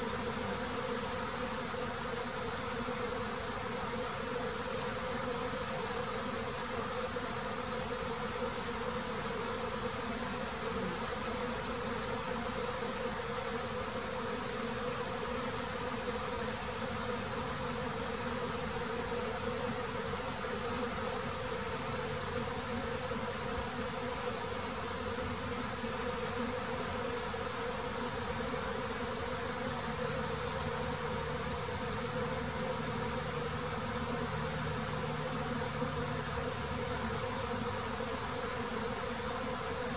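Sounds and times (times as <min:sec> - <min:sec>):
bees buzzing: 0:00.0 - 0:39.9
high-pitched insect hiss: 0:00.0 - 0:39.9.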